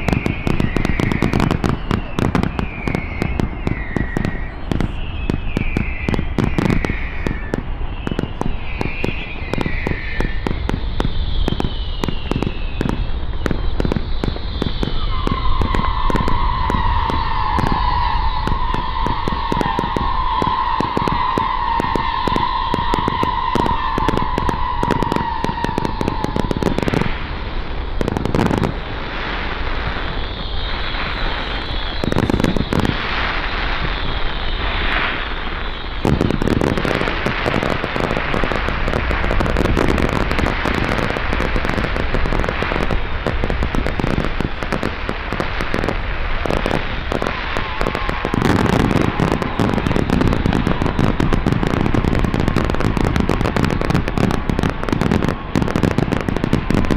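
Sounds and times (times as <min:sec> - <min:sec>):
fireworks crackling and popping: 0:00.0 - 0:56.9.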